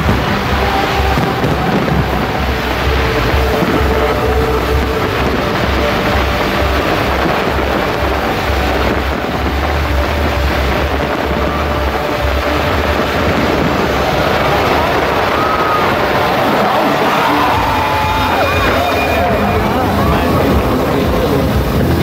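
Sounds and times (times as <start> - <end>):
fireworks booming: 0.0 - 22.0.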